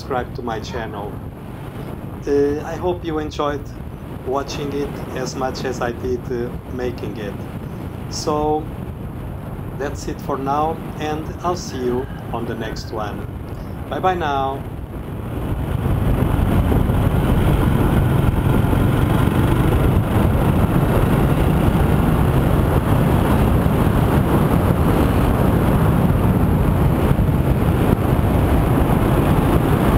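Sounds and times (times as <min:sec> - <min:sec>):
motorcycle road noise: 0:00.0 - 0:29.9
wind rush on microphone: 0:00.0 - 0:29.9.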